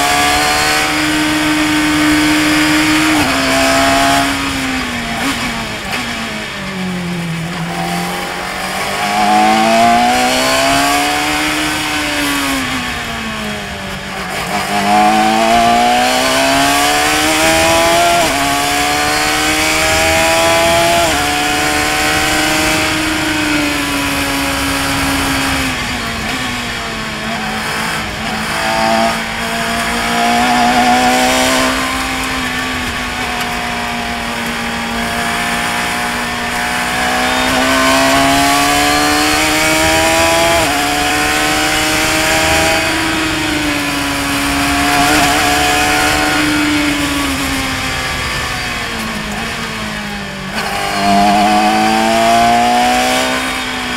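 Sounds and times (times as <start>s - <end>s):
race car engine at high revs: 0.0s - 53.9s
wind rushing over cockpit: 0.0s - 53.9s.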